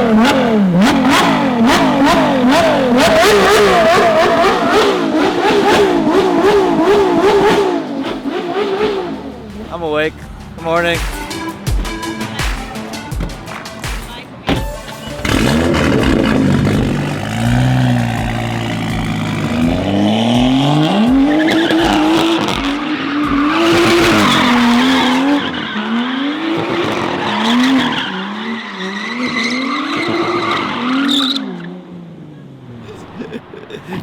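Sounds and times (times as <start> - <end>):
tires squealing: 0.0 - 31.8
car engine revving: 0.0 - 34.0.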